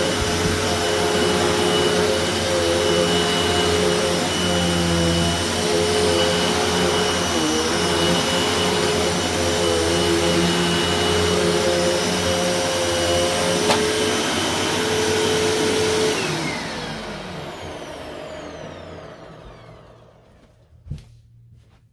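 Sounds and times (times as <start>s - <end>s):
vacuum cleaner whining: 0.0s - 20.9s.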